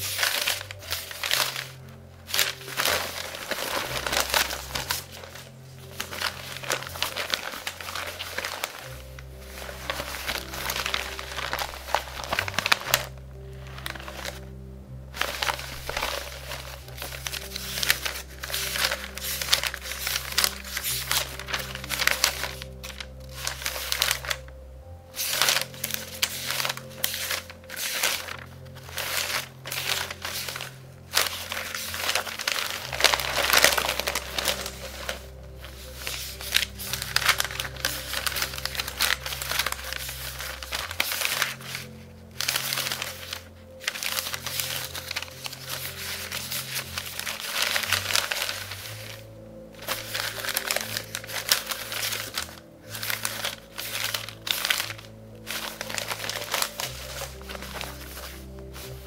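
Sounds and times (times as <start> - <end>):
newspaper pages rustling: 0.0 - 59.0
soft background music: 0.0 - 59.0.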